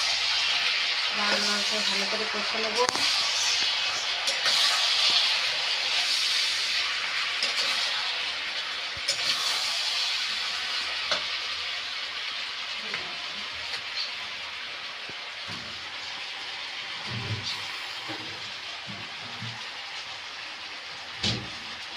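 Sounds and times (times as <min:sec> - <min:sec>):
vegetables sizzling in hot oil: 0:00.0 - 0:21.9.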